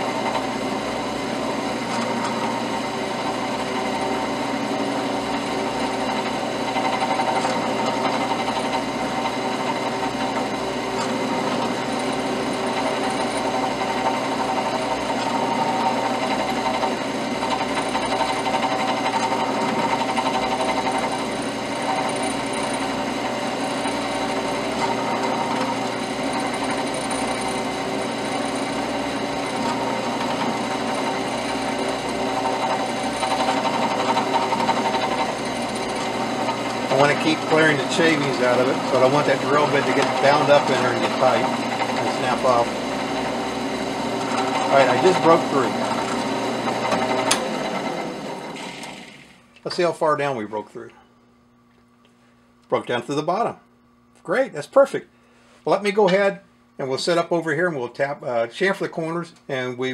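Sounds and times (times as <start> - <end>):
drill press drilling metal: 0.0 - 49.9.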